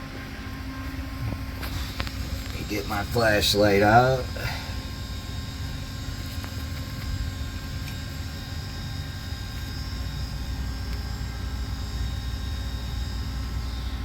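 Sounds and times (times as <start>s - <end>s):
motor or fan humming: 0.0s - 14.0s.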